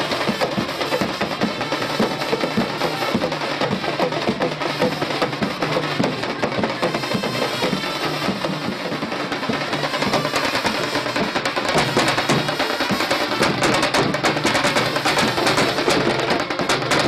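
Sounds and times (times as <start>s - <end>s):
barrel drums playing fast rhythm: 0.0s - 17.0s.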